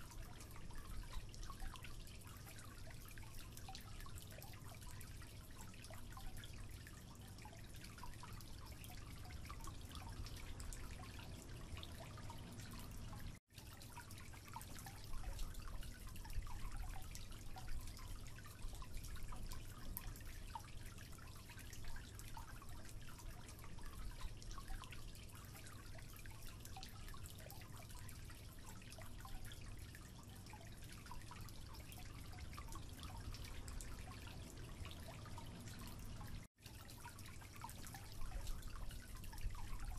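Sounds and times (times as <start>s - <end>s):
low hum and hiss: 0.0s - 39.9s
water dripping into sink: 0.0s - 39.9s.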